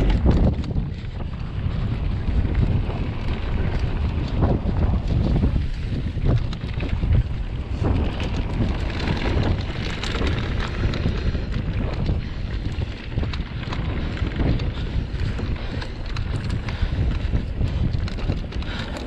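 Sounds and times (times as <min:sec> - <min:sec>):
bike rattling and clicking: 0:00.0 - 0:19.0
tyres rolling on loose dirt: 0:00.0 - 0:19.0
wind buffeting microphone: 0:00.0 - 0:19.0.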